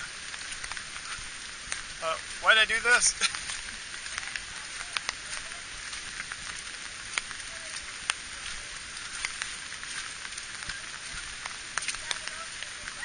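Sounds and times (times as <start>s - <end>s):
raindrops striking close by: 0.0s - 13.0s
steady rain falling: 0.0s - 13.0s.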